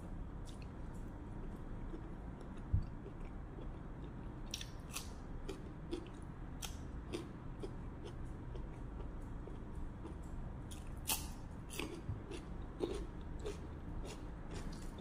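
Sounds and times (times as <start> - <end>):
man chewing with mouth clicks: 0.4 - 15.0.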